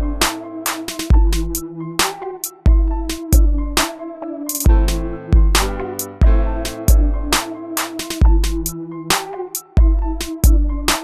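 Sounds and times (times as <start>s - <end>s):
synth melody: 0.0s - 10.9s.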